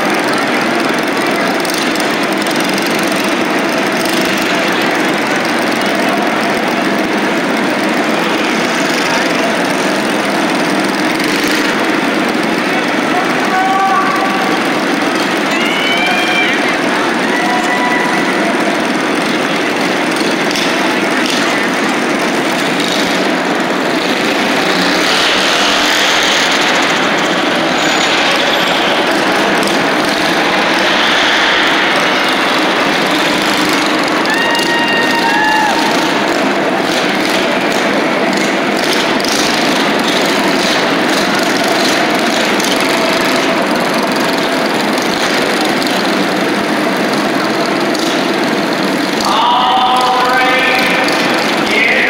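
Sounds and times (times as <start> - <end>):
minibike engines running: 0.0 - 52.0.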